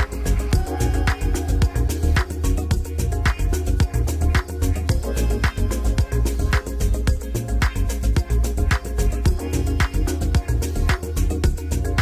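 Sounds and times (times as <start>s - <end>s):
dance music with steady beat: 0.0s - 12.0s.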